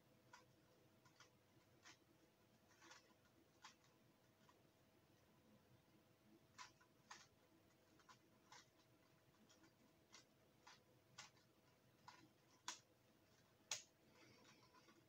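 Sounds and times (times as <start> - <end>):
puzzle cube clicking and clacking: 0.2 - 4.6, 6.4 - 15.0.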